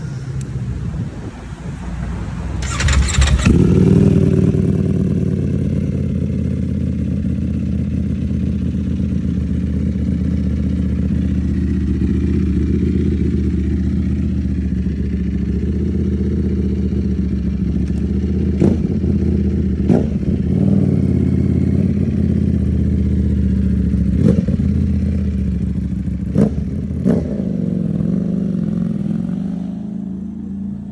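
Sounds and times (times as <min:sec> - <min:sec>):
motorcycle engine revving and idling: 0:02.5 - 0:30.9.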